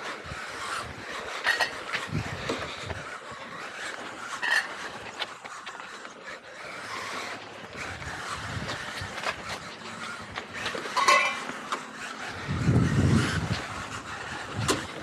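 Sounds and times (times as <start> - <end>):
rc car tyre and drivetrain noise: 0.0 - 15.0.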